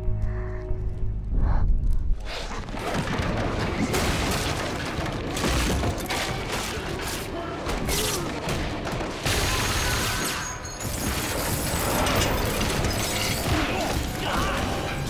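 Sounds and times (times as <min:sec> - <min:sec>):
dramatic music score: 0:00.0 - 0:02.8, 0:04.8 - 0:15.0
gunfire: 0:02.7 - 0:15.0.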